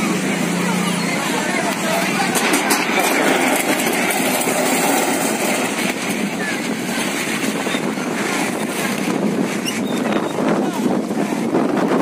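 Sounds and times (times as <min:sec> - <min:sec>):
strong wind rushing: 0:02.0 - 0:12.0.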